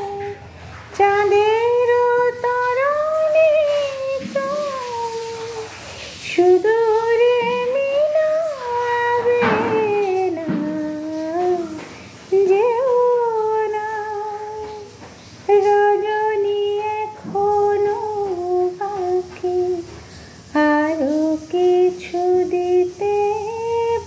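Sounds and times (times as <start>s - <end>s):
woman singing slow melody: 0.0s - 14.9s, 15.5s - 24.0s.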